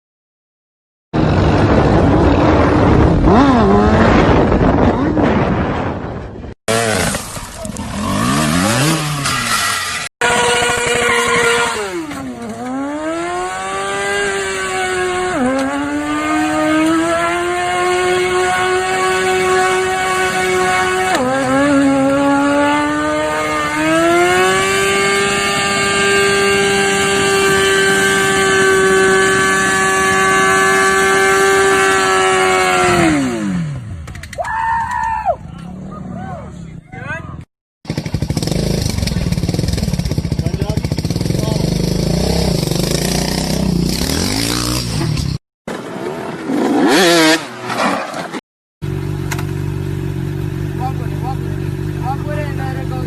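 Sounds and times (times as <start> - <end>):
motorcycle engine accelerating: 1.1 - 34.3, 37.8 - 53.0.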